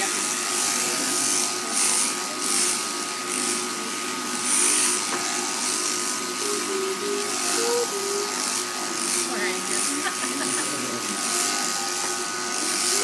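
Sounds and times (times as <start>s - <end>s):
electric shears buzzing: 0.0s - 13.0s.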